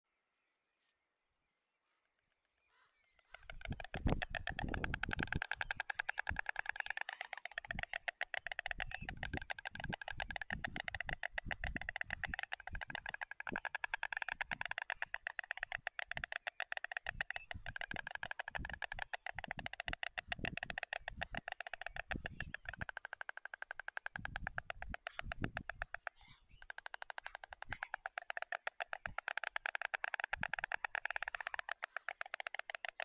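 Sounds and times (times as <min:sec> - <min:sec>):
storks bill-clattering: 0:02.2 - 0:33.0.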